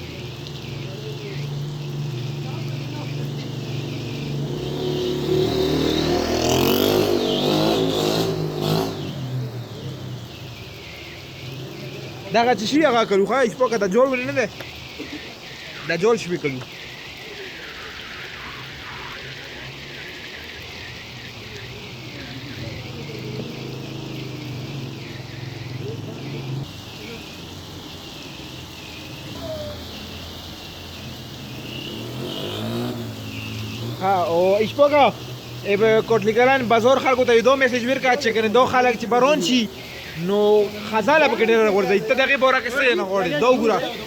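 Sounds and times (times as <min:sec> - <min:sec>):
heavy rain falling: 0:00.0 - 0:44.0
vehicle engine passing by: 0:00.6 - 0:12.8, 0:18.5 - 0:44.0.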